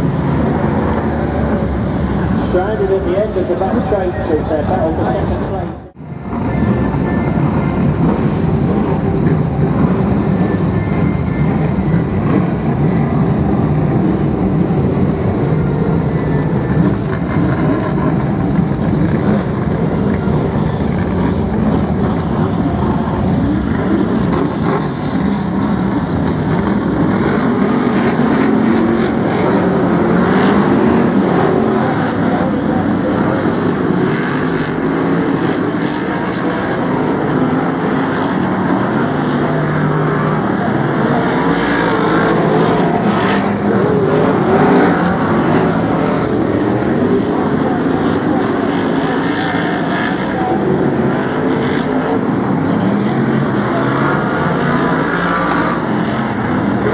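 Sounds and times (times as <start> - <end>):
racing car engines: 0.0 - 56.9.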